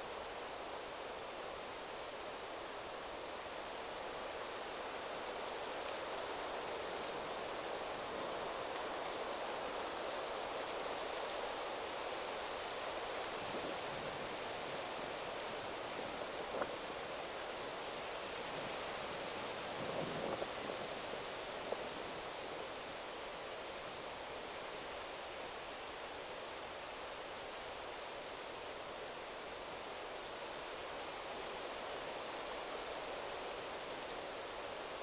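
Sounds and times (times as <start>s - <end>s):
wind rustling through trees: 0.0s - 35.0s.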